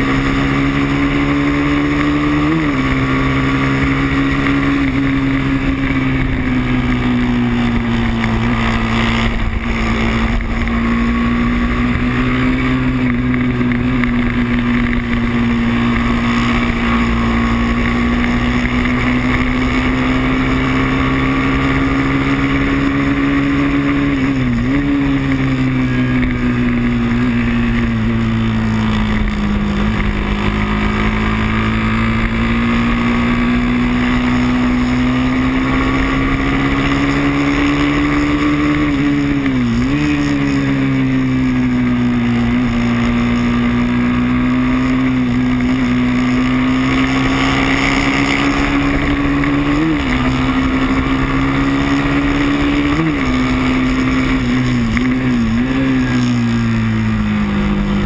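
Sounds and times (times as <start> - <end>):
racing motorcycle engine high revs: 0.0 - 58.0.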